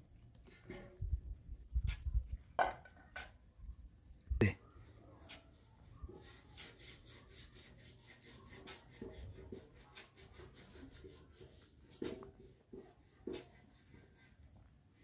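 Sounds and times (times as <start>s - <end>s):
faint rubbing and scraping: 0.2s - 15.0s.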